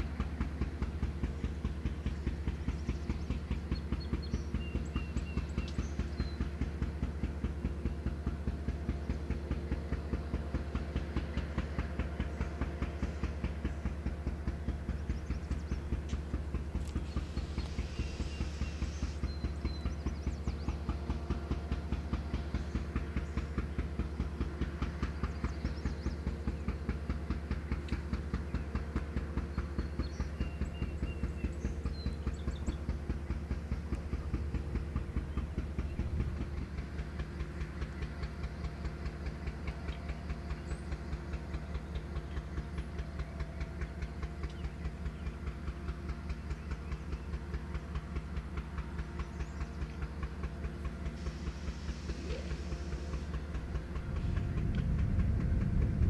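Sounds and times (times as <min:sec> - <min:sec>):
diesel locomotive engine pulsing: 0:00.0 - 0:56.0.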